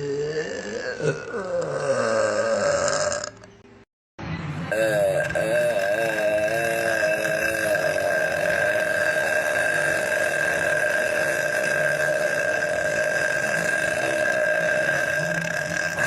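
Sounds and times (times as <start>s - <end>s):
woman belching: 0.0s - 3.4s, 4.7s - 16.0s.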